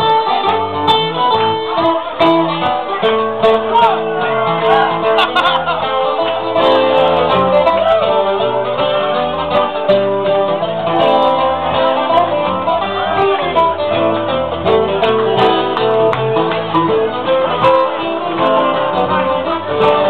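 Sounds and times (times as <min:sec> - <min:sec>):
guitar and plucked strings music: 0:00.0 - 0:20.0.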